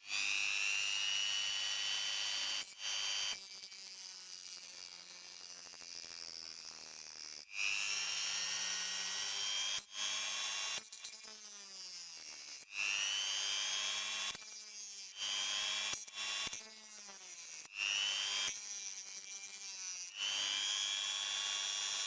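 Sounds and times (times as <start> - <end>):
rotary tool cutting disc whine: 0.0 - 22.0.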